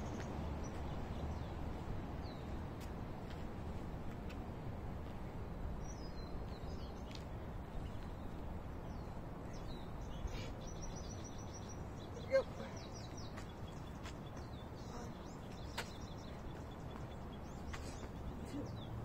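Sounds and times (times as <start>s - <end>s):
small birds chirping: 0.0s - 3.4s, 5.1s - 19.0s.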